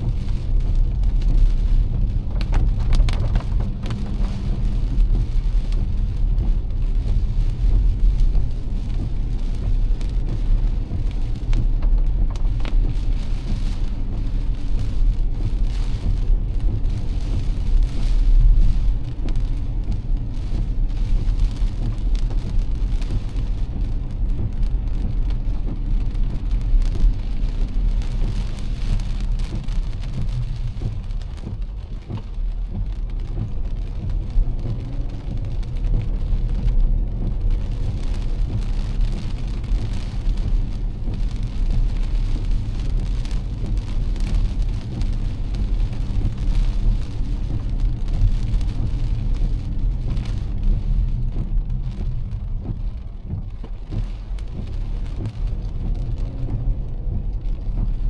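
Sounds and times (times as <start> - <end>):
heavy rain on a car: 0.0 - 58.0
road and engine rumble: 0.0 - 58.0.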